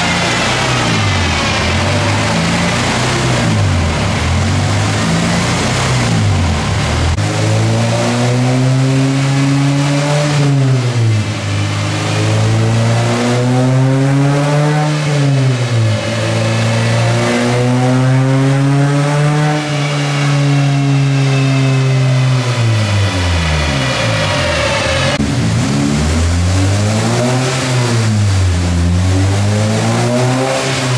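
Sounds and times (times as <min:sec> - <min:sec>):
car engine revving on dyno: 0:00.0 - 0:30.9.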